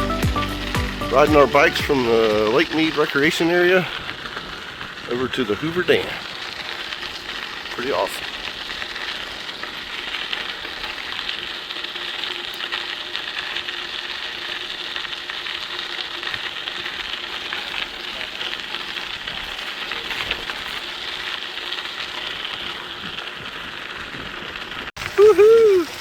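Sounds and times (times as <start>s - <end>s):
bicycle rushing along trail: 0.0s - 26.0s.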